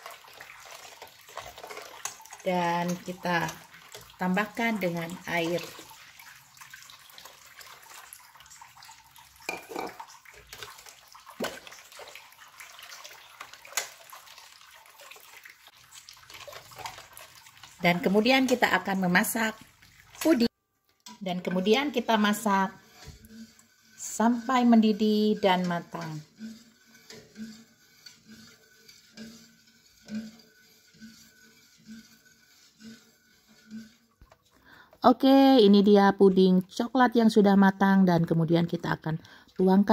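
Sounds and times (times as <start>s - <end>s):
water pouring into a pot: 0.0s - 20.5s, 21.6s - 34.8s
spatula stirring mixture: 0.0s - 39.9s.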